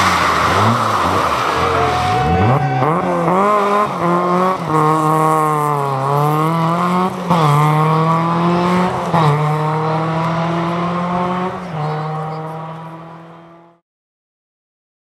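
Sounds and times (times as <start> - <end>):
rally car engine revving hard: 0.0 - 13.8.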